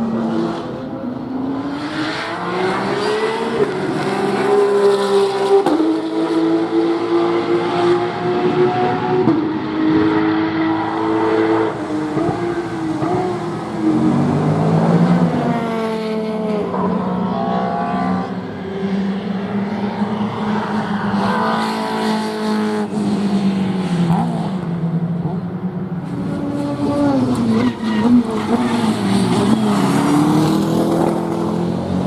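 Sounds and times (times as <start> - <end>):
race cars passing: 0.0 - 32.0.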